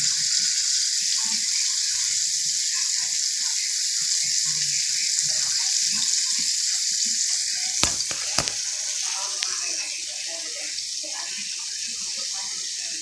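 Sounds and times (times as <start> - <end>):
food frying in hot oil: 0.0 - 13.0.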